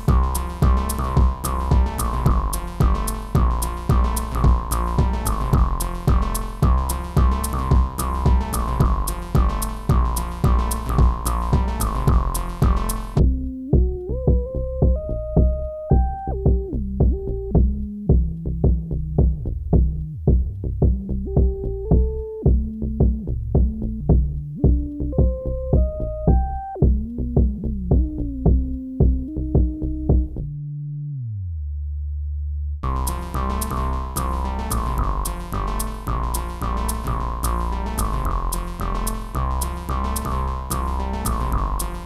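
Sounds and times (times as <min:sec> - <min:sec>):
low synth tone sliding down: 0:00.0 - 0:17.6, 0:23.8 - 0:42.0
analog synthesizer melody: 0:00.0 - 0:18.1, 0:23.9 - 0:31.6, 0:32.8 - 0:42.0
drum machine beat: 0:00.0 - 0:30.4, 0:32.8 - 0:42.0.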